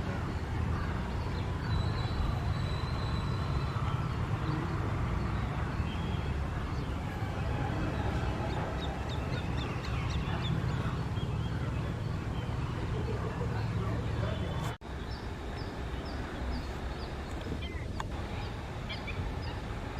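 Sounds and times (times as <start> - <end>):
birds calling: 0.0 - 19.9.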